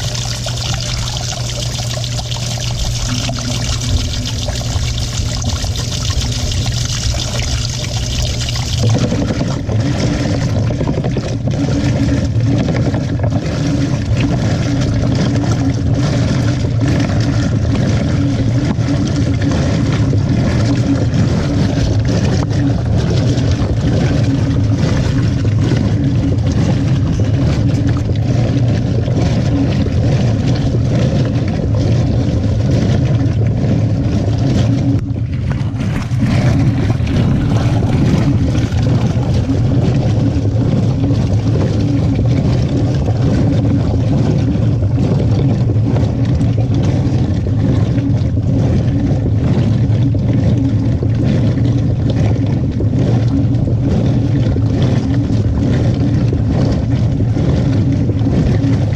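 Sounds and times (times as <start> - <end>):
washing machine motor hum: 0.0 - 58.9
water sloshing in drum: 0.0 - 58.9.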